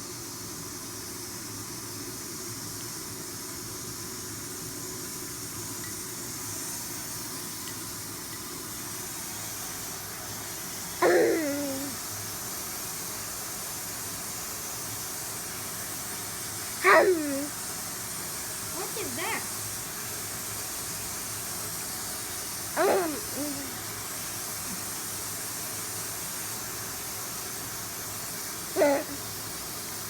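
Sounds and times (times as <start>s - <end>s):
steady background hiss: 0.0s - 30.0s.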